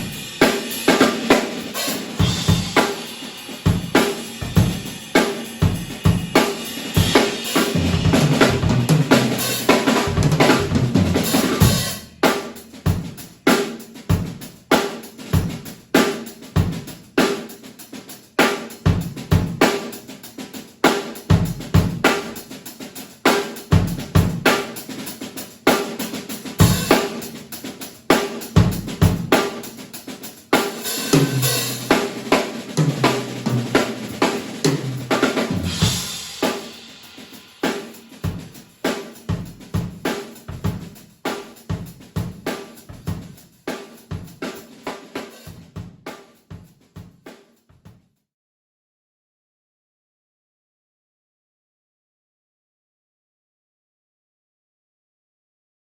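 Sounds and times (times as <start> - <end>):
drum kit playing: 0.0 - 47.5.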